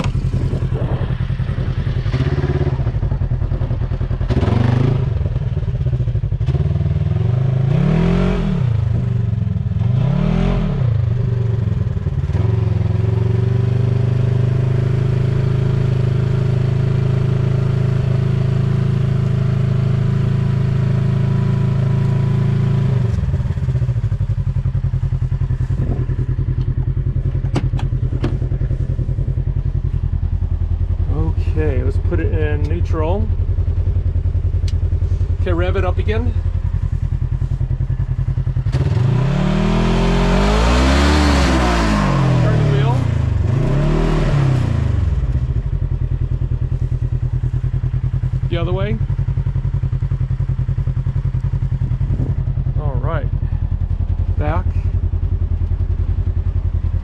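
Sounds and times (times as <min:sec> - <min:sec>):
vehicle engine revving: 0:00.0 - 0:56.8.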